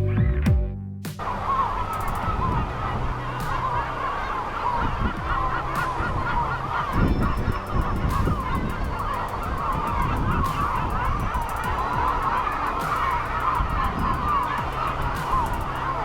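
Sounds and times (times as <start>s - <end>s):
birds honking in chorus: 1.2s - 16.0s.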